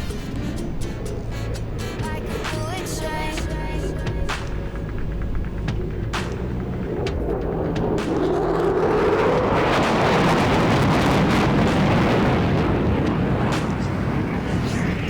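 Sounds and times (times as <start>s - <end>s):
jet engines roaring past: 0.0s - 15.0s.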